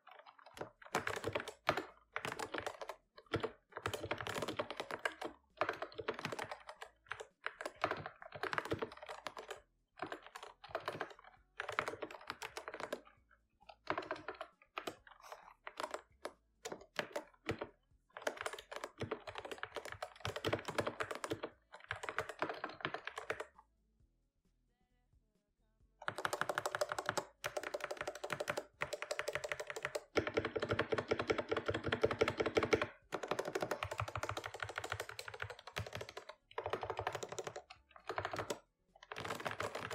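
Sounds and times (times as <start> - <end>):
mechanical keyboard typing: 0.0 - 23.6, 26.0 - 39.9.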